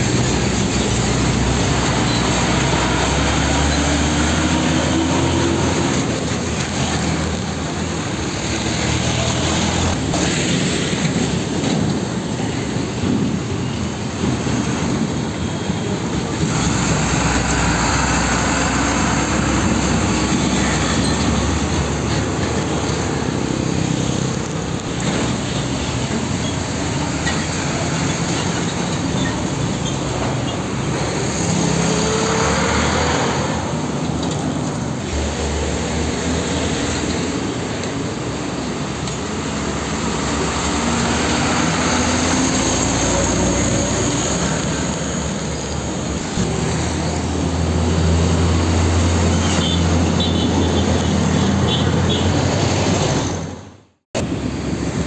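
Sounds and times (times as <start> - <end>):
diesel trucks driving past: 0.0 - 55.0
road traffic: 0.0 - 55.0.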